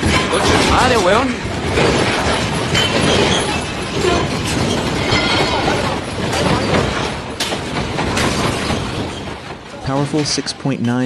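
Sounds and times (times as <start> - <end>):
earthquake rumbling and rattling: 0.0 - 10.6
sharp clattering knocks: 0.0 - 11.0.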